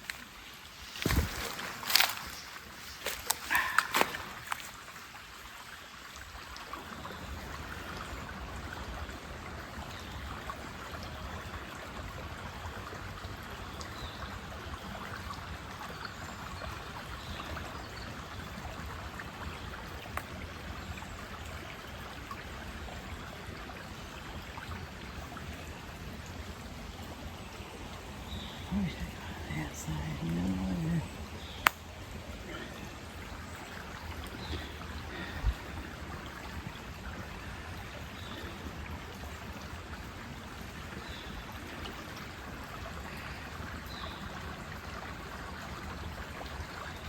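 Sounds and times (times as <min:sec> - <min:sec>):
stream rushing over its bed: 0:00.0 - 0:47.0.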